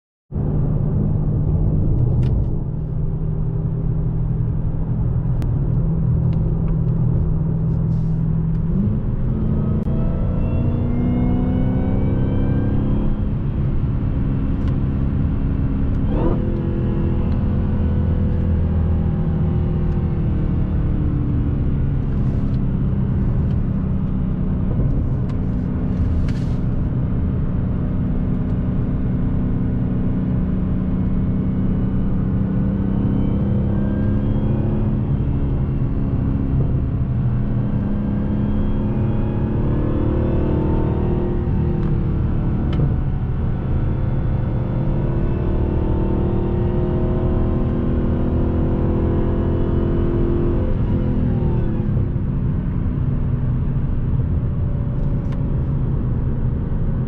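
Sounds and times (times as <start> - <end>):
road noise: 0.3 - 57.0
car engine cruising: 0.4 - 57.0.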